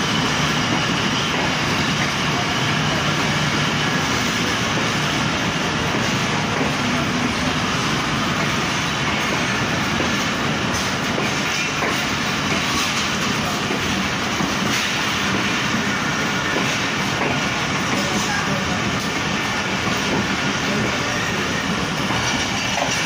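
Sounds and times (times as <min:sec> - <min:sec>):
clatter over the track: 0:00.0 - 0:23.0
train wheels rumbling on rails: 0:00.0 - 0:23.0.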